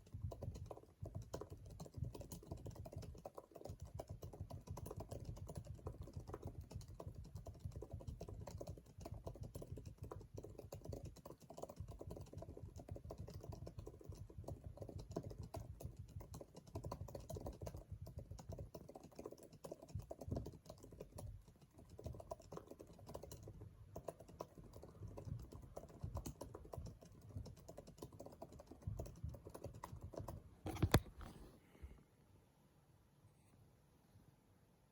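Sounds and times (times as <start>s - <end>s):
mechanical keyboard typing: 0.0s - 31.3s.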